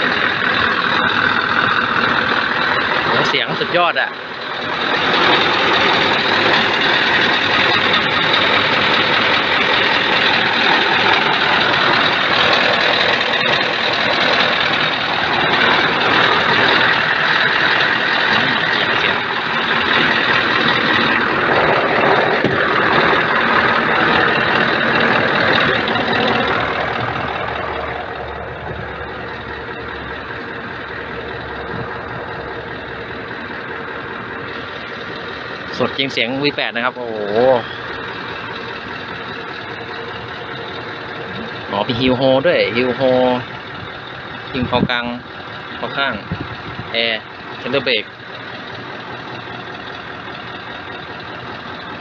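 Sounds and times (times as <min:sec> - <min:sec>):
diesel truck engine running: 0:00.0 - 0:52.0.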